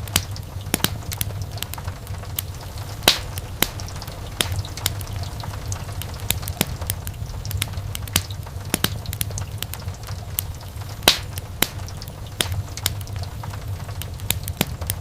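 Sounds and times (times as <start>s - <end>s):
logs crackling and popping: 0.0s - 15.0s
wood fire burning: 0.0s - 15.0s.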